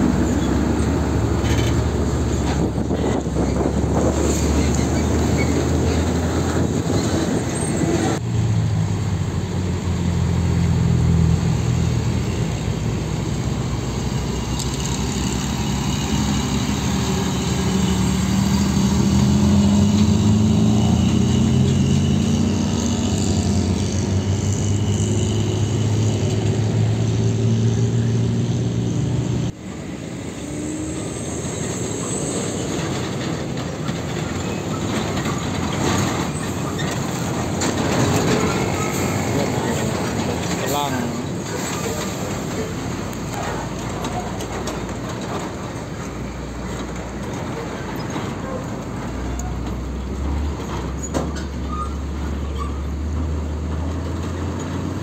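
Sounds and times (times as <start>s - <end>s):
diesel trucks accelerating past: 0.0s - 55.0s
quieter passing traffic: 0.0s - 55.0s.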